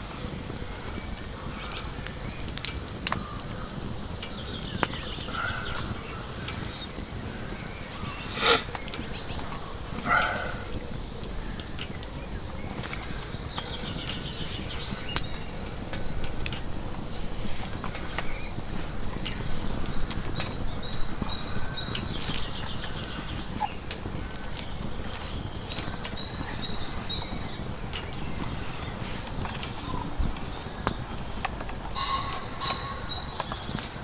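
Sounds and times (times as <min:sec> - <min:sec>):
songbird chirping: 0:00.0 - 0:23.9, 0:24.6 - 0:34.0.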